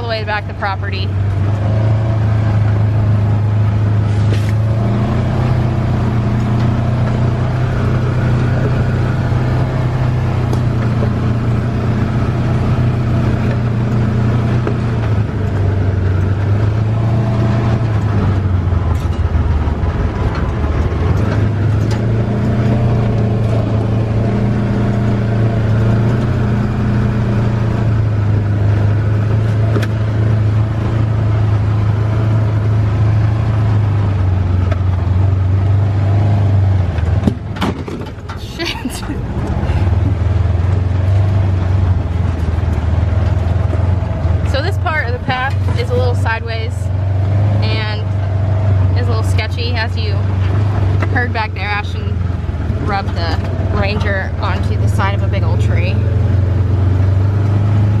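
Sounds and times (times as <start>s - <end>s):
utility vehicle engine running: 0.0s - 58.0s.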